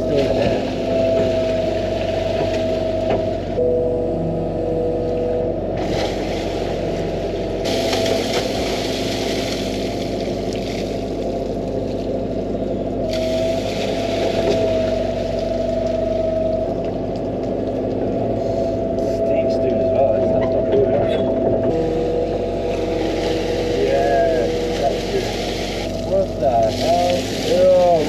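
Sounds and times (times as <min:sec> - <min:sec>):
excavator diesel engine: 0:00.0 - 0:28.0
hydraulic whine: 0:00.0 - 0:28.0.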